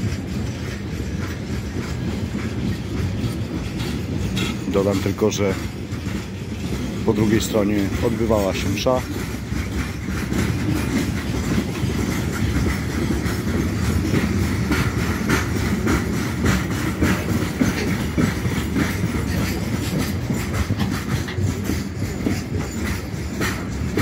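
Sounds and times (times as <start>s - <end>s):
freight train wheels rumbling: 0.0s - 24.0s
wheels clacking over rail joints: 0.0s - 24.0s.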